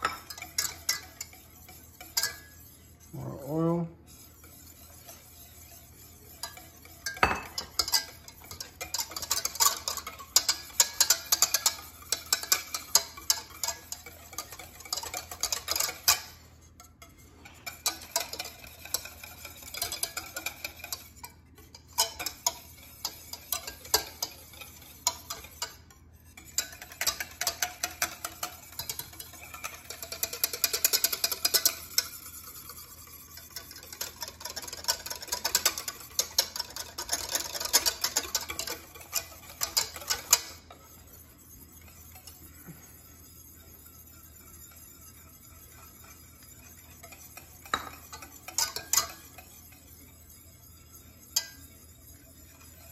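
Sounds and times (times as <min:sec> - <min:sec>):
whisk clicking against metal pan: 0:00.0 - 0:52.9.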